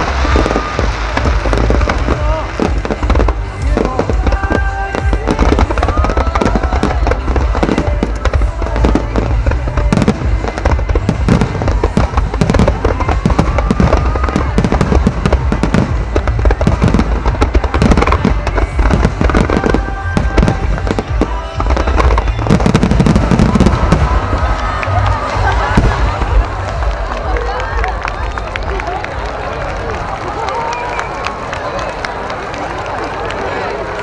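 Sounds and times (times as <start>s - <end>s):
fireworks booming and crackling: 0.0s - 34.0s.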